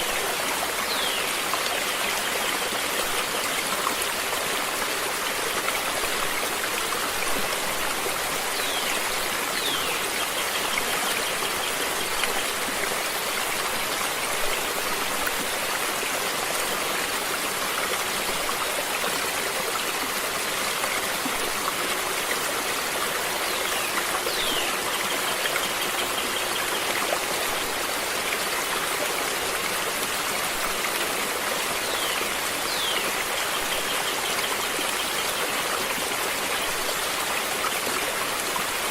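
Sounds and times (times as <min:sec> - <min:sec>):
stream of water running: 0:00.0 - 0:38.9.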